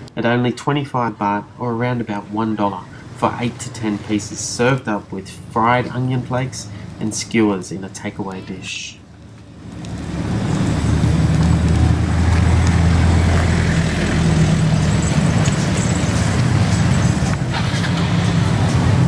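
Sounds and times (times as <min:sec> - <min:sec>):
street traffic: 0:00.0 - 0:19.0
vehicle engine humming: 0:02.1 - 0:19.0.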